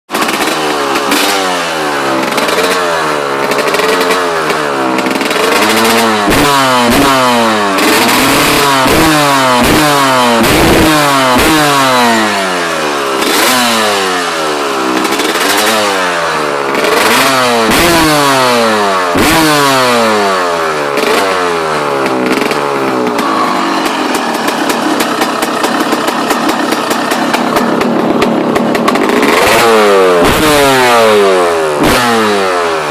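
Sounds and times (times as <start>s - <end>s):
two-stroke motorcycle engine revving: 0.1s - 32.9s.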